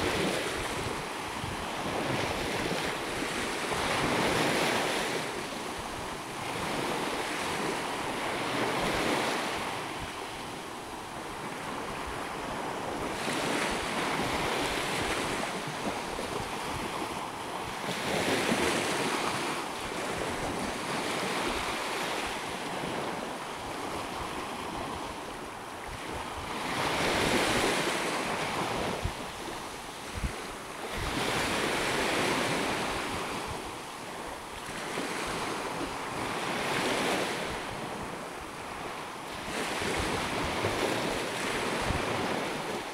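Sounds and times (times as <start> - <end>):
small waves washing on beach: 0.0 - 42.9
wind rumbling on microphone: 0.0 - 42.9.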